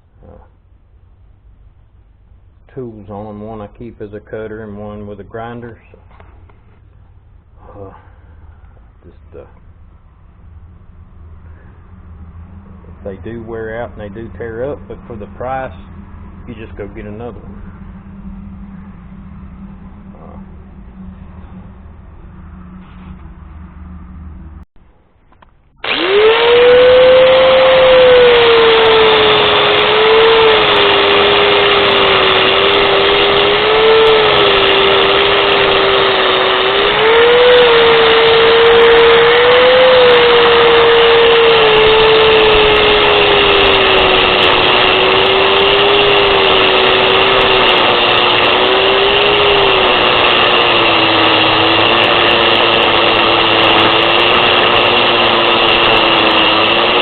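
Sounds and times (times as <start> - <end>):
angle grinder motor whine: 6.4 - 24.6, 25.3 - 57.0.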